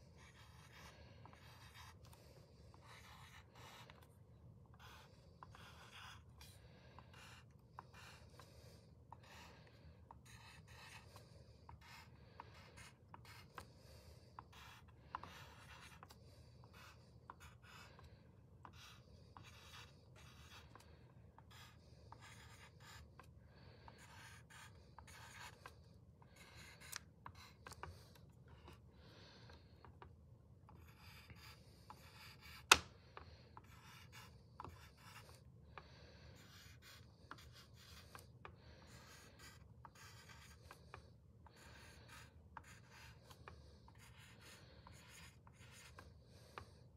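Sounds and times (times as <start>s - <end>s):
pencil writing on paper: 0.0s - 46.9s.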